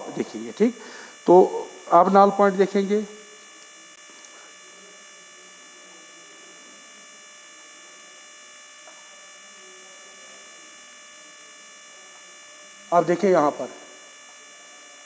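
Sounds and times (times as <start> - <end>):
electrical hum: 0.0 - 15.0
high-pitched whine: 0.0 - 15.0.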